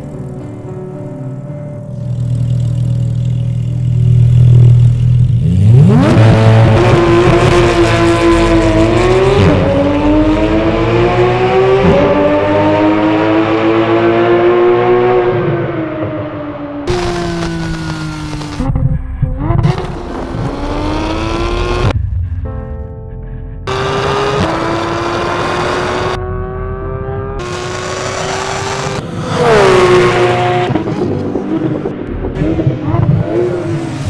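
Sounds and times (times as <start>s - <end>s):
sports car engine revving: 2.0s - 16.2s, 16.9s - 18.7s, 19.3s - 22.0s, 23.7s - 34.0s.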